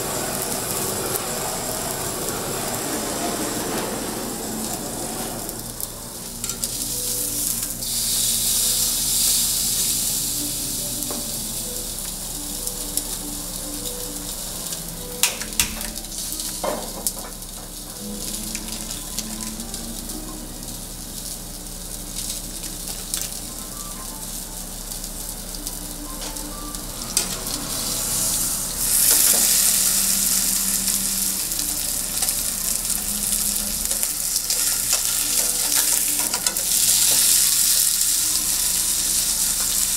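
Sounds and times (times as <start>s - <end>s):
steak sizzling: 0.0s - 39.9s.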